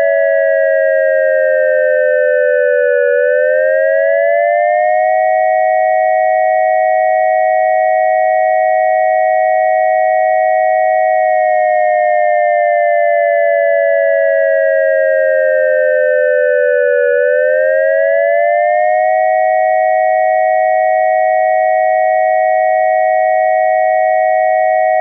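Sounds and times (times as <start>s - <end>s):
dual-tone electronic siren: 0.0s - 25.0s.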